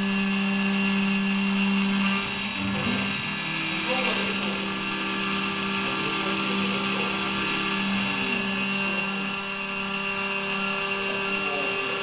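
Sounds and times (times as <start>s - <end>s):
milling machine cutting metal: 0.0s - 12.0s.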